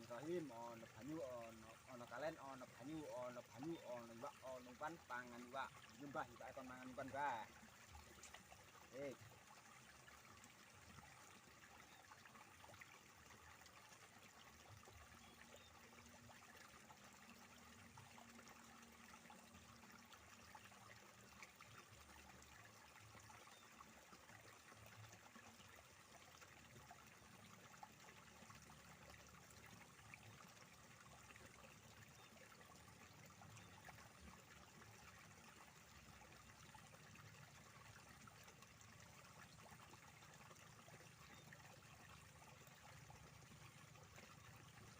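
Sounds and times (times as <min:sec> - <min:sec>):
water trickling in a channel: 0:00.0 - 0:44.9.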